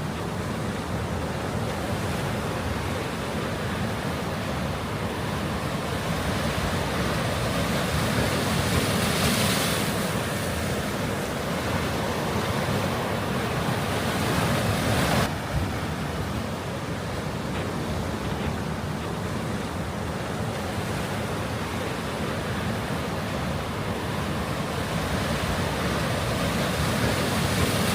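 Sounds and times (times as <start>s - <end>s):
sea waves rushing on shore: 0.0s - 27.9s.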